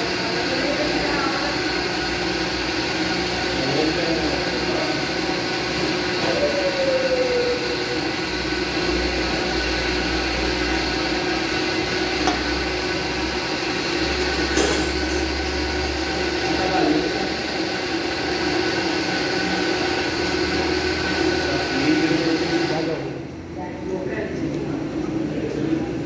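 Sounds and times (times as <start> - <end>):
blender running: 0.0 - 26.0.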